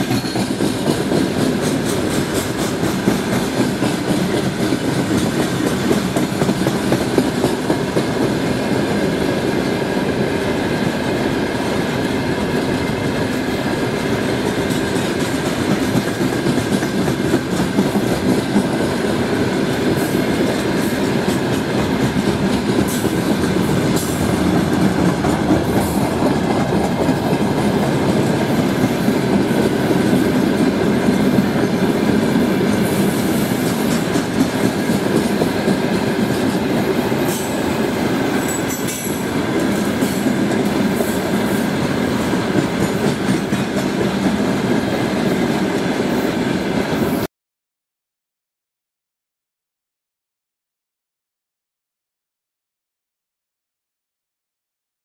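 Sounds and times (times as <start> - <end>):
freight wagons rumbling on rails: 0.0 - 46.2.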